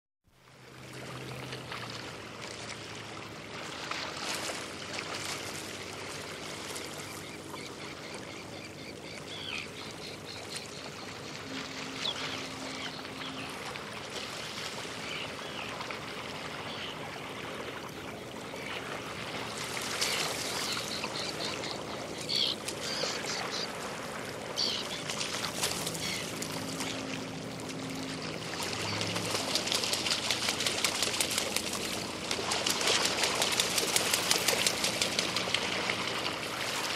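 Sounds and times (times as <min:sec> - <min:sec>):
waves lapping against boats: 0:00.3 - 0:36.9.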